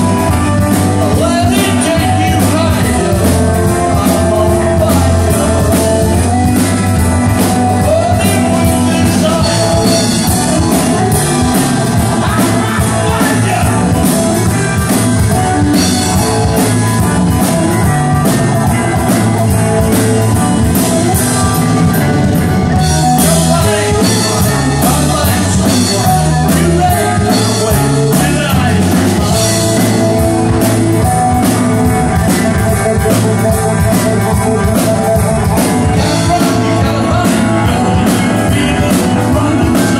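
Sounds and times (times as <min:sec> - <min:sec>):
drum kit with cymbals: 0:00.0 - 0:39.9
electric guitars: 0:00.0 - 0:39.9
live rock band playing: 0:00.0 - 0:39.9.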